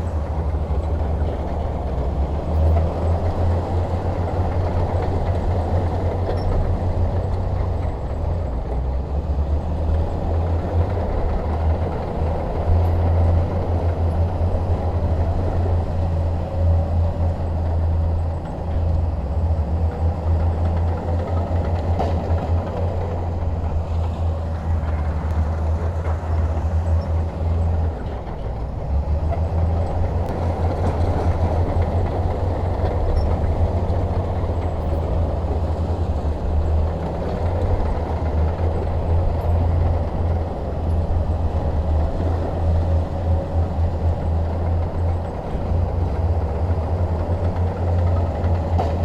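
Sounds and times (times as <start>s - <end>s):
bulldozer diesel engine droning: 0.0s - 49.0s.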